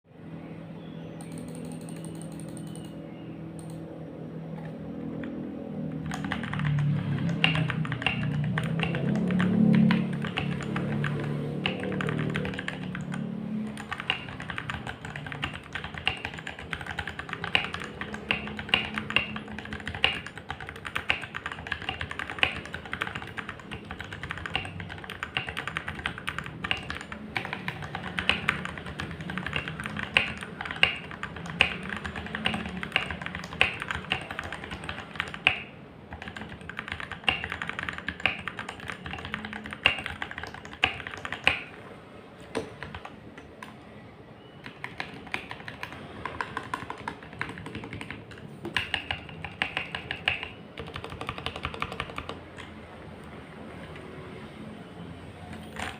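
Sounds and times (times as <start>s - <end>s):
mechanical keyboard typing: 1.2s - 3.0s, 3.6s - 3.8s, 4.6s - 41.8s, 42.5s - 43.8s, 44.6s - 52.8s, 55.5s - 55.9s.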